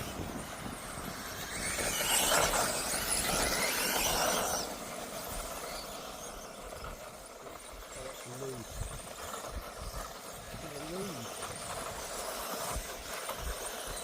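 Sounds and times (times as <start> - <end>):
rc car motors and gears whining: 0.0 - 14.0.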